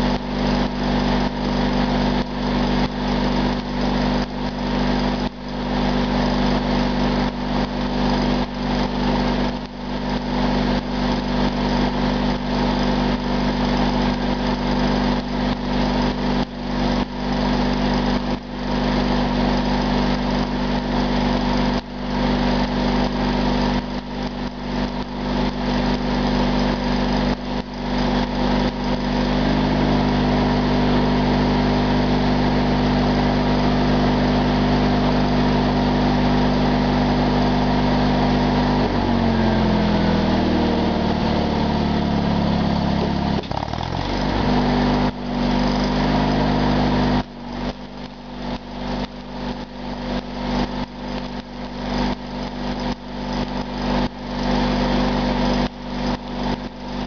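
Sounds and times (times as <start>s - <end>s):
welding arc crackling: 0.0s - 57.0s
welding machine drone: 0.0s - 57.0s.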